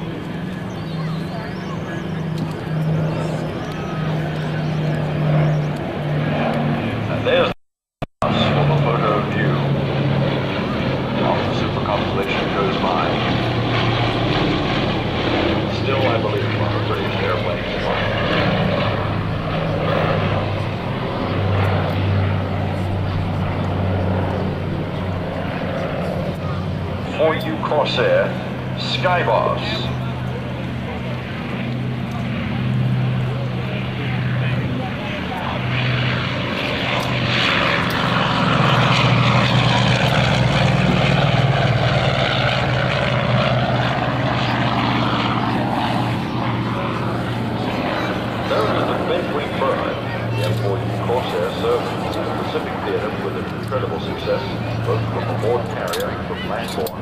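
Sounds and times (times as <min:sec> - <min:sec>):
propeller airliner droning past: 0:00.0 - 0:07.6, 0:08.2 - 0:57.0.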